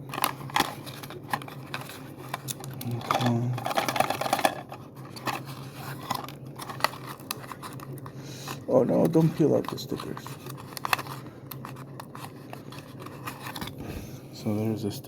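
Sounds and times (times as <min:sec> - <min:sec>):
plastic parts clicking and rattling: 0:00.0 - 0:13.8
steady low hum: 0:00.0 - 0:15.0
rustling: 0:00.1 - 0:14.0.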